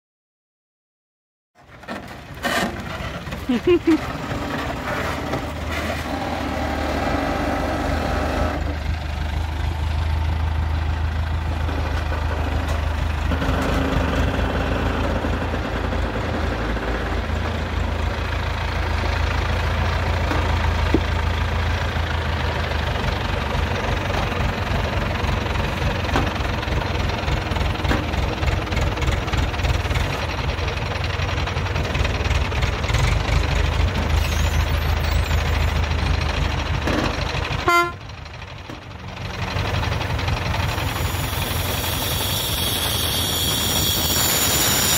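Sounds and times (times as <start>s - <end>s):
crane engine droning: 2.2s - 44.9s.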